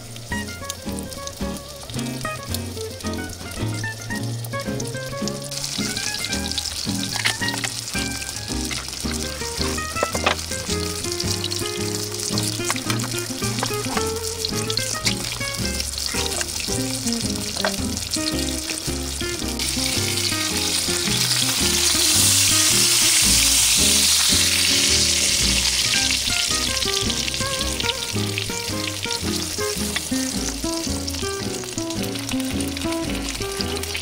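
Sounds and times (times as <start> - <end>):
background music: 0.0 - 34.0
fish sizzling in oil: 0.0 - 34.0.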